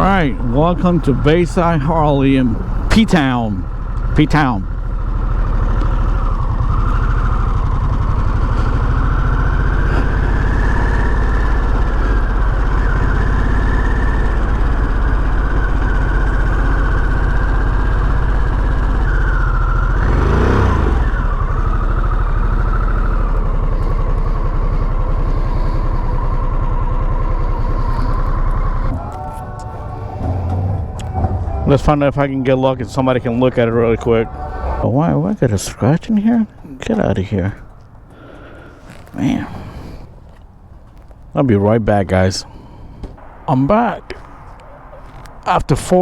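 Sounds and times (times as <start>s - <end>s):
motorcycle engine running: 0.0s - 41.8s.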